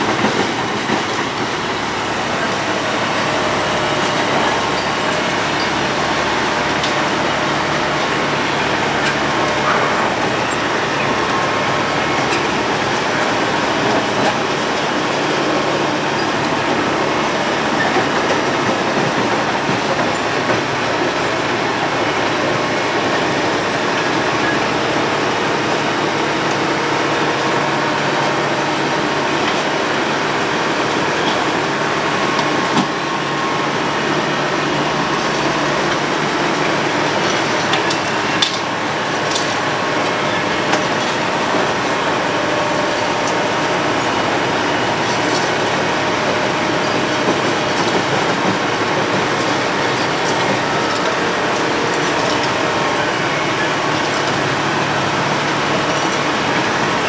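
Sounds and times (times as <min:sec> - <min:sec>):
road milling machine grinding: 0:00.0 - 0:57.0.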